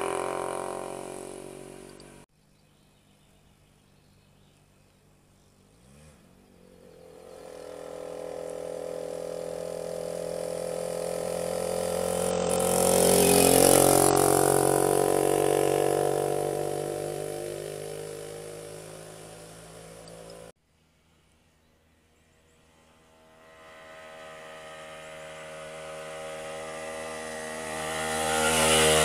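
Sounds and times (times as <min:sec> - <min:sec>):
motorcycle engine passing by: 0:00.0 - 0:02.3, 0:04.6 - 0:21.4, 0:22.0 - 0:29.0.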